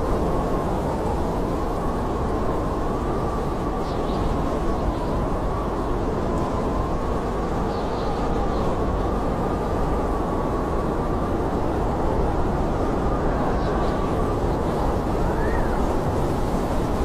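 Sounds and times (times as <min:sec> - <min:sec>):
blizzard wind rushing: 0:00.0 - 0:17.0
wind whistling: 0:00.0 - 0:17.0.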